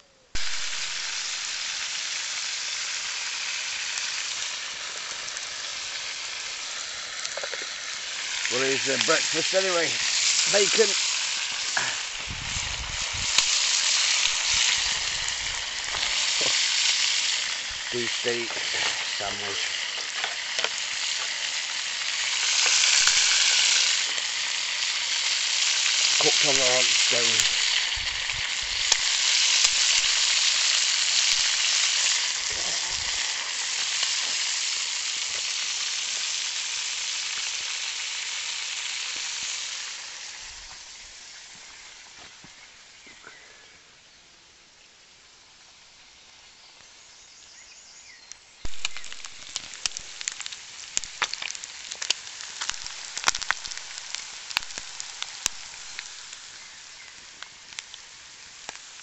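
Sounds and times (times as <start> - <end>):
soft fire hiss: 0.0 - 59.0
fire crackling and popping: 0.3 - 42.9, 45.6 - 59.0
bacon sizzling on hot stone: 0.3 - 43.0, 45.0 - 59.0.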